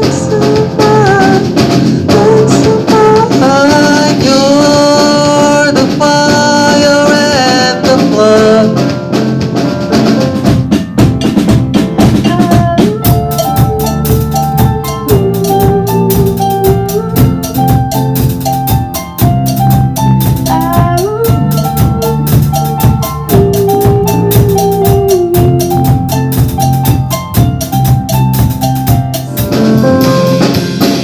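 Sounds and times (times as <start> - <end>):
band playing instrumental: 0.0 - 31.0
drum kit beat: 0.0 - 31.0.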